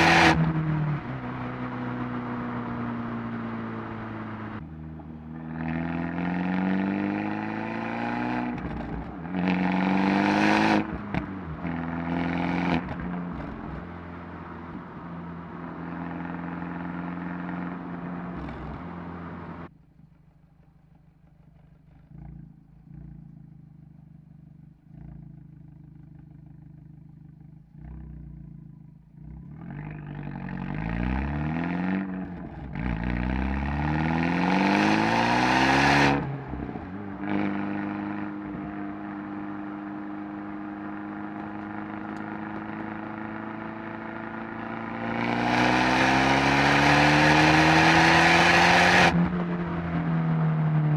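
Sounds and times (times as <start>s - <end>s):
car exhaust accelerating: 0.0s - 50.9s.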